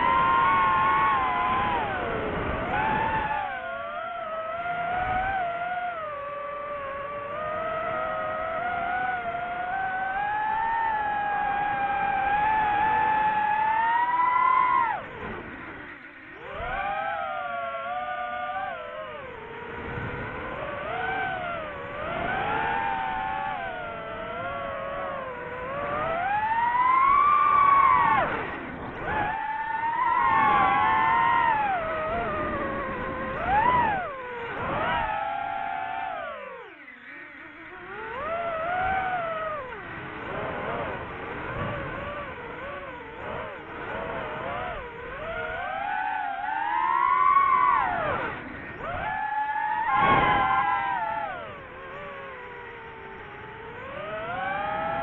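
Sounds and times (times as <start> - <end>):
drone propellers whining: 0.0 - 55.0.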